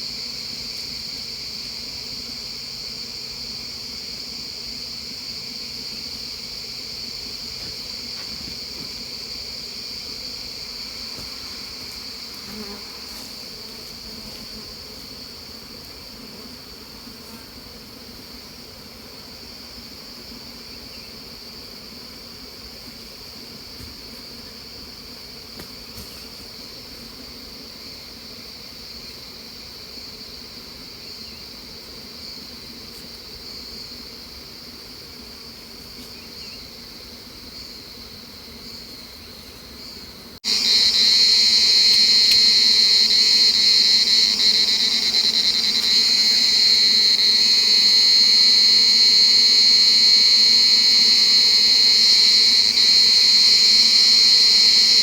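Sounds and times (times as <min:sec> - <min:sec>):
insects chirring: 0:00.0 - 0:55.0
honeybees buzzing: 0:00.2 - 0:55.0.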